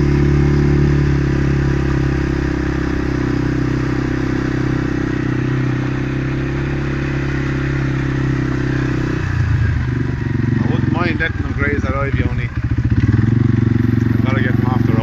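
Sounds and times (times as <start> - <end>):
small vehicle engine running: 0.0 - 15.0.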